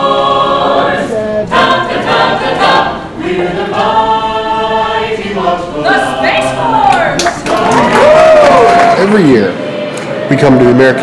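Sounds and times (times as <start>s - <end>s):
choir singing in harmony: 0.0s - 11.0s.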